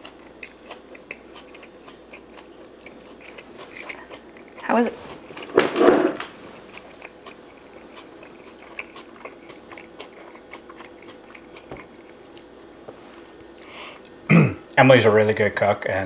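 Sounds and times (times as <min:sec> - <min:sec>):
people chewing crunchy food: 0:00.0 - 0:05.6, 0:06.2 - 0:14.8.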